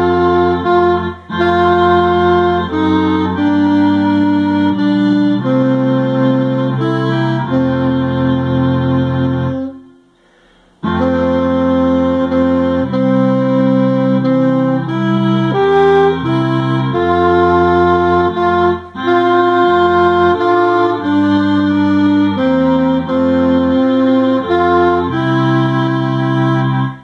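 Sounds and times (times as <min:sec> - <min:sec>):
alto saxophone playing hymn: 0:00.0 - 0:27.0.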